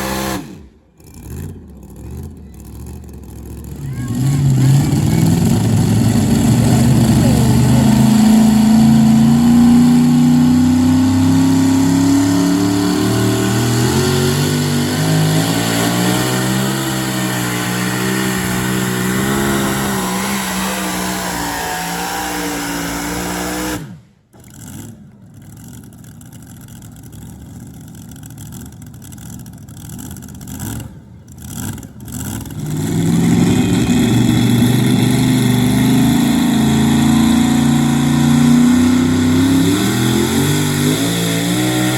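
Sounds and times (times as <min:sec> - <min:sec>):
engine revving up: 0:00.0 - 0:02.4, 0:03.7 - 0:25.0, 0:30.4 - 0:41.9
truck engine at high revs: 0:00.0 - 0:41.9.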